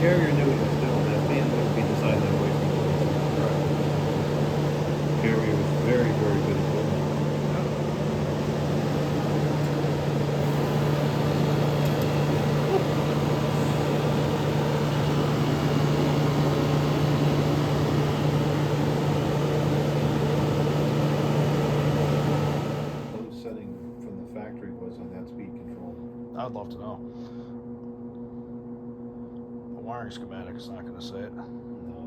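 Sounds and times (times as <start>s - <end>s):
air conditioner fan humming: 0.0s - 32.0s.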